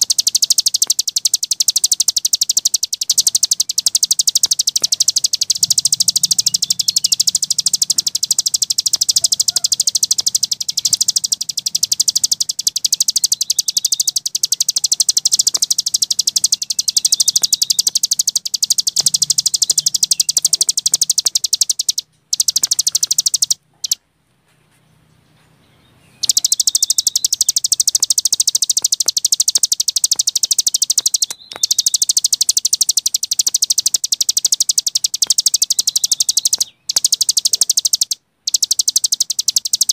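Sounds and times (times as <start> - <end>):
songbird high-pitched trill: 0.0 - 24.0, 25.8 - 39.9.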